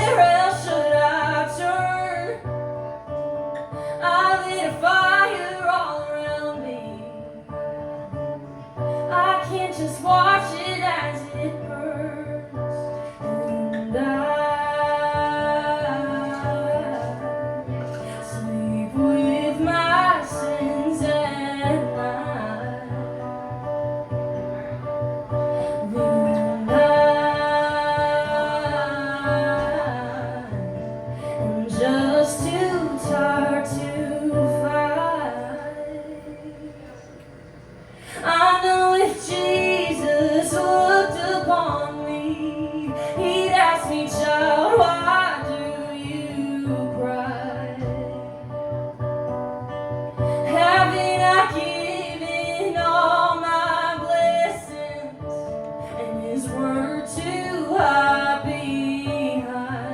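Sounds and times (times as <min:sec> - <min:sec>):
woman singing country song: 0:00.0 - 0:37.3, 0:38.0 - 0:59.9
acoustic guitar: 0:00.0 - 0:59.9.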